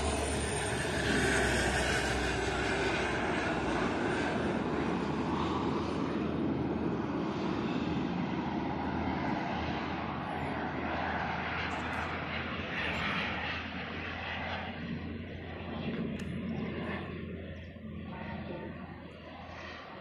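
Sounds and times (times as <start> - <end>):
model jet engines rushing: 0.0 - 20.0.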